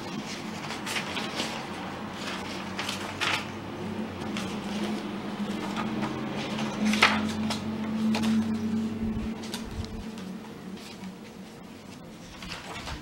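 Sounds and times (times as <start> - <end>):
paper pages turning: 0.0 - 13.0.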